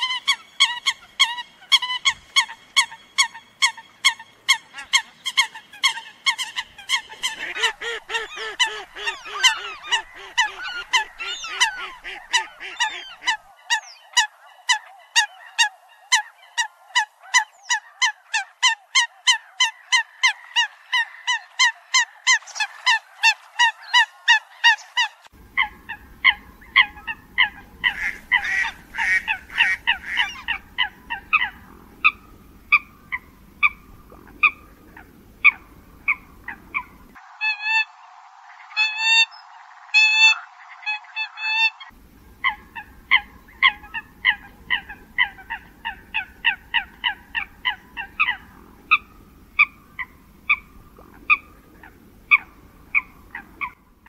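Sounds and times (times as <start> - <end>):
coots calling: 0.0 - 53.9
low background noise: 0.0 - 54.0.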